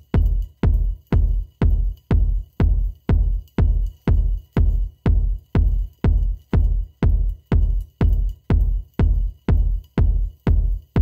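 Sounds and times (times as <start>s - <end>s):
electronic music with deep drum beat: 0.0s - 11.0s.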